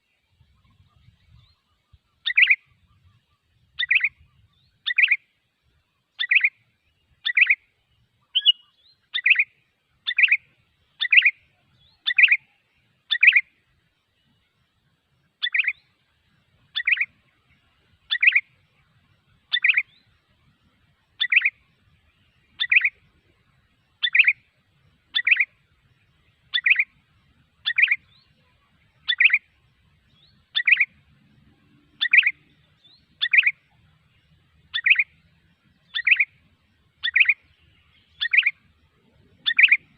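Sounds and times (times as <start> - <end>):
bird chirping calls: 0.4 - 5.3, 6.1 - 13.6, 15.3 - 16.0, 16.6 - 39.9.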